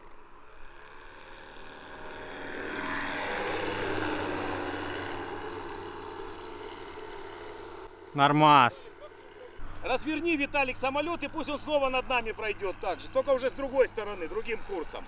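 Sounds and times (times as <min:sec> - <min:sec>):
model airplane engine passing overhead: 0:00.0 - 0:15.0.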